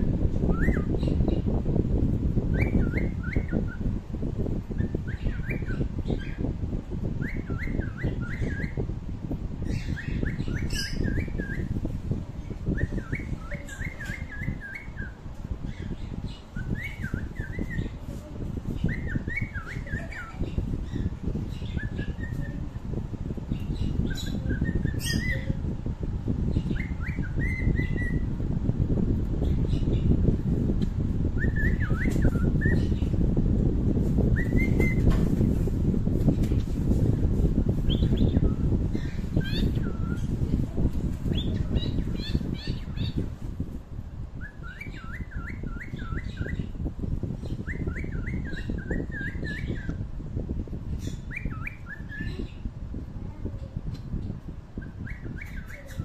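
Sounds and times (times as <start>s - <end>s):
bird chirping: 0.0s - 25.7s, 26.4s - 33.5s, 34.1s - 43.5s, 44.4s - 50.0s, 51.0s - 52.7s, 54.8s - 56.0s.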